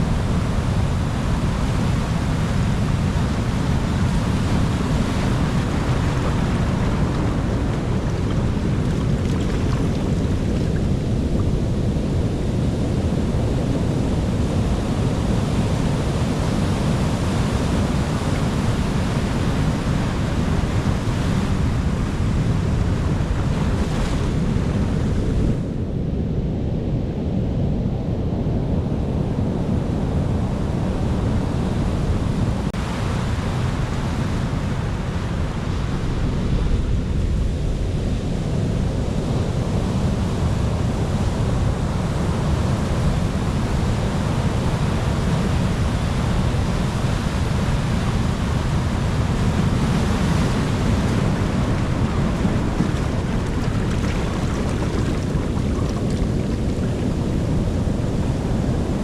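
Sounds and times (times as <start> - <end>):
sea waves and surf: 0.0 - 26.0, 28.8 - 59.0.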